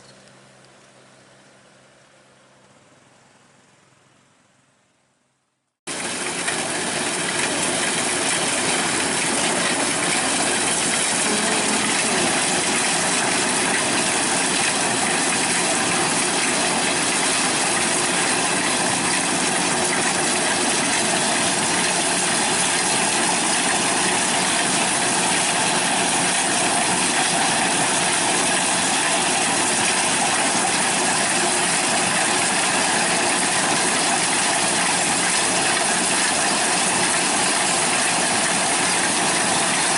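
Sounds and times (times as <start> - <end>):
machine whirring: 5.9 - 39.9.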